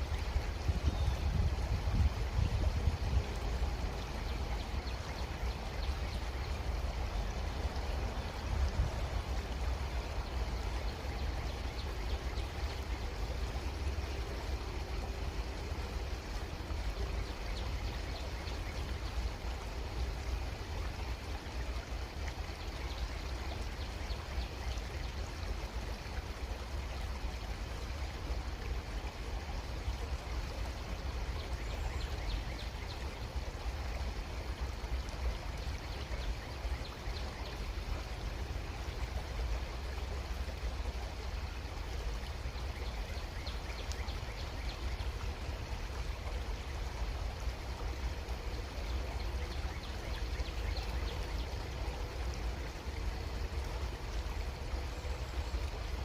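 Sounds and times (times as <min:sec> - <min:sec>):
creek water babbling: 0:00.0 - 0:56.0.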